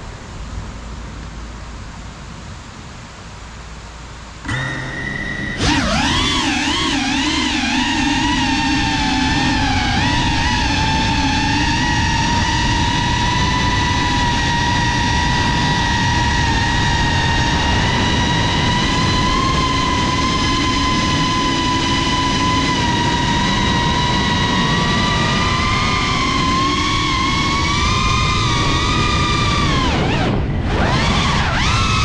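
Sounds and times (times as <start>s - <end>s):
drone propellers whining: 4.4s - 32.0s
wind rush: 5.0s - 32.0s.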